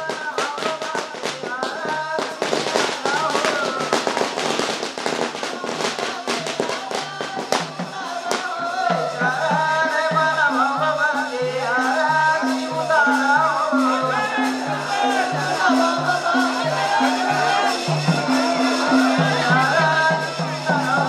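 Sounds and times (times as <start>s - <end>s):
loud procession music: 0.0s - 21.0s.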